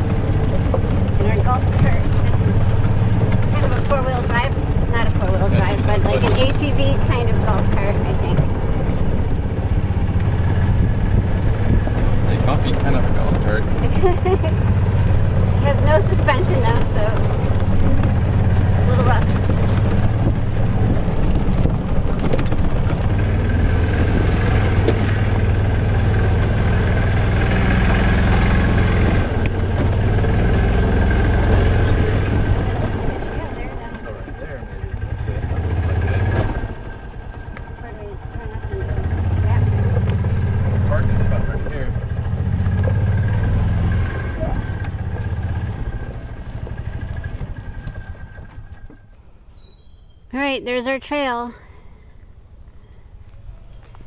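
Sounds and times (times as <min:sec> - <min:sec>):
cart jolting knocks: 0:00.0 - 0:49.2
golf cart engine drone: 0:00.0 - 0:54.0.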